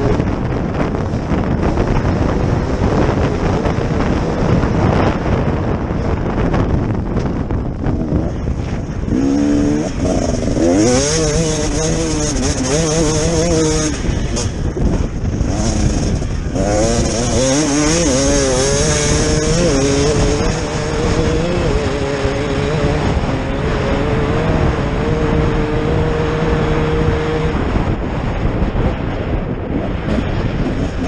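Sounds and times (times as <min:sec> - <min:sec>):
motorcycle engine revving hard: 0:00.0 - 0:31.0.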